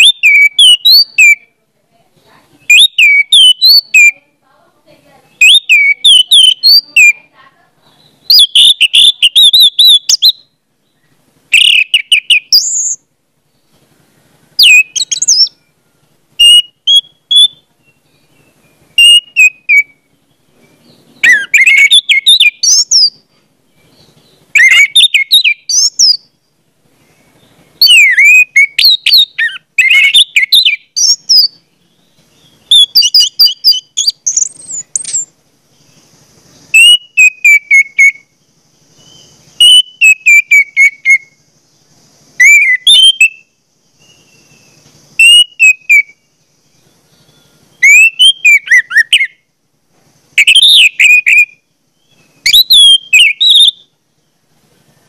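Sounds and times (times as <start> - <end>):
bird singing chirps and whistles: 0.0 - 1.6, 2.6 - 4.2, 5.2 - 13.0, 14.6 - 15.8, 16.4 - 26.4, 27.0 - 49.4, 50.4 - 54.0.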